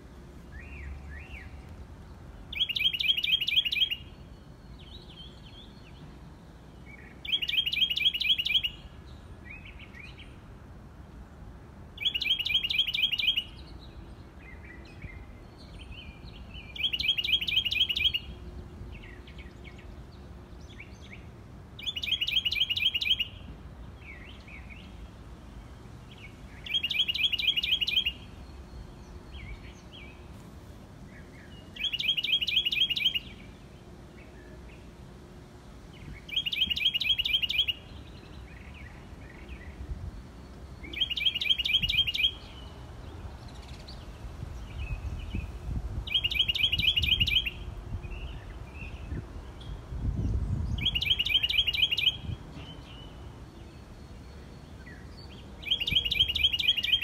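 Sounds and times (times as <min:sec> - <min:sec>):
birds chirping: 0:00.0 - 0:10.5, 0:11.9 - 0:34.9, 0:35.9 - 0:57.0
songbird trilling: 0:02.5 - 0:06.0, 0:06.8 - 0:10.4, 0:12.0 - 0:20.0, 0:20.6 - 0:25.0, 0:26.1 - 0:30.2, 0:31.1 - 0:33.6, 0:35.9 - 0:57.0.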